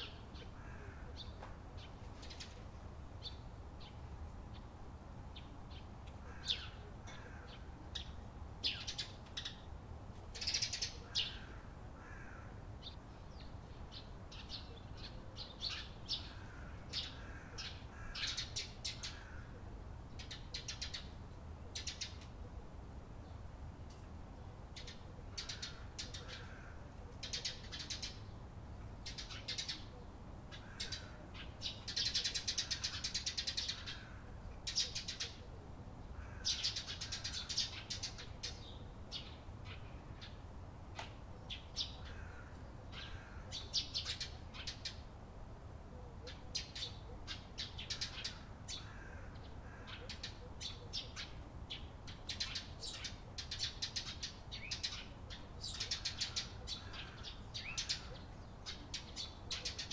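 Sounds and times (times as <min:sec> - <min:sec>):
sparrows chirping: 0:00.0 - 0:09.7, 0:10.3 - 0:19.5, 0:20.1 - 0:22.3, 0:24.4 - 0:45.0, 0:46.2 - 0:59.9.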